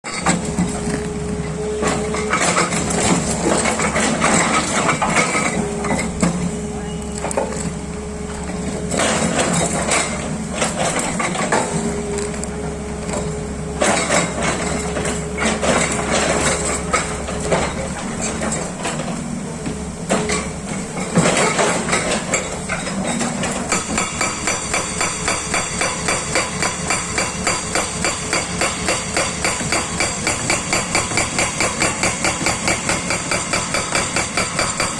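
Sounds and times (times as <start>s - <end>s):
hydraulic rock breaker hammering: 0.1s - 7.8s, 8.5s - 12.4s, 13.0s - 19.3s, 20.0s - 34.9s.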